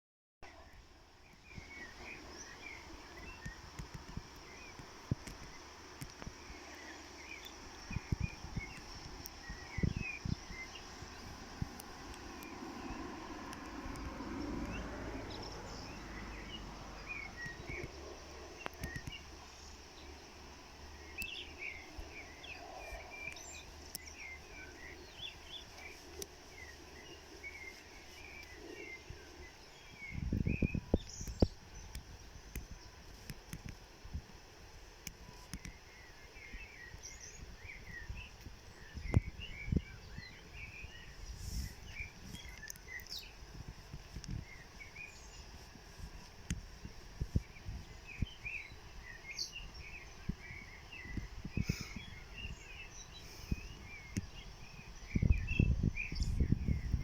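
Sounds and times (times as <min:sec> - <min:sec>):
faint outdoor background noise: 0:00.4 - 0:57.0
small birds chirping: 0:00.4 - 0:57.0.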